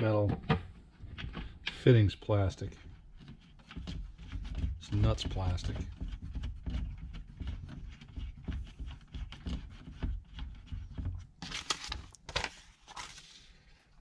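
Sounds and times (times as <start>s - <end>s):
plastic fittings clicking and scraping: 0.0s - 11.9s
rustles and scrapes: 0.9s - 14.0s.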